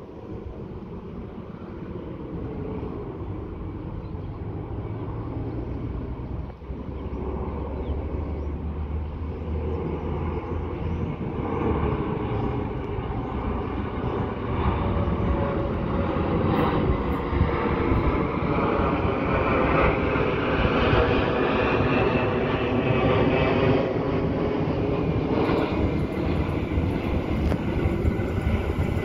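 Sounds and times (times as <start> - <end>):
locomotive drone: 0.0 - 29.0.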